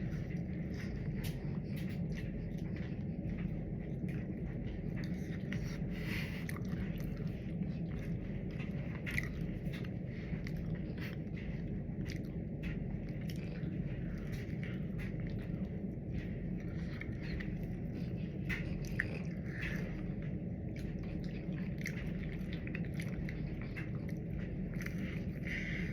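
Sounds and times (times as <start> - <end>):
chewing with mouth clicks: 0.0 - 25.9
steady low hum: 0.0 - 25.9.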